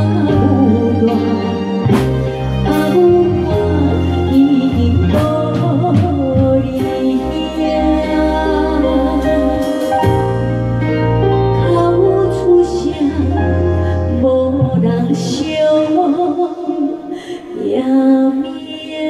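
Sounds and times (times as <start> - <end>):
steady bass line: 0.0 - 16.6
electronic keyboard: 0.0 - 17.0
woman singing into a microphone: 0.0 - 19.0.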